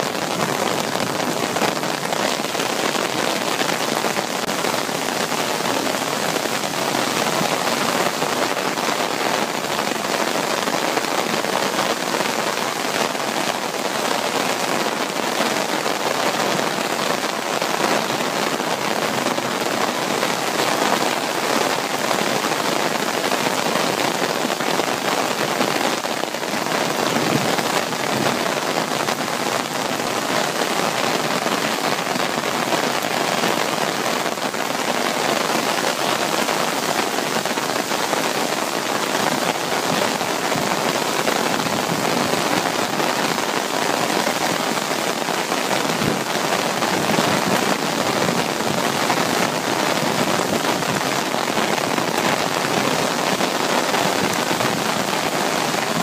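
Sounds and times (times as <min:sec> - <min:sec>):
heavy rain on paving: 0:00.0 - 0:56.0.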